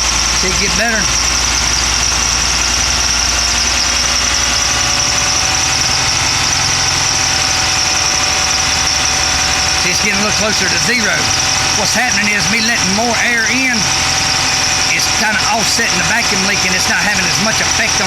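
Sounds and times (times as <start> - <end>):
car engine running: 0.0 - 18.0
steady high-pitched tone: 0.0 - 18.0.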